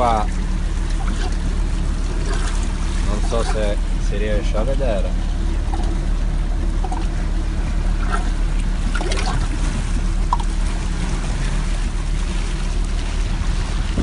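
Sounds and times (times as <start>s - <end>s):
boat engine humming: 0.0s - 14.0s
water trickling and sloshing: 0.0s - 14.0s.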